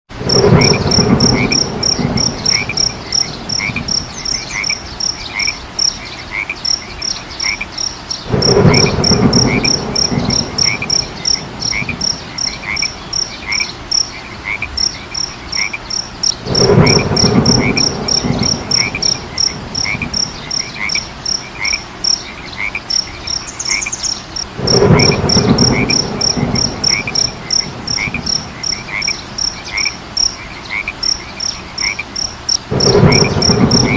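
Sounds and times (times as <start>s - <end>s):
frogs croaking: 0.2s - 33.9s.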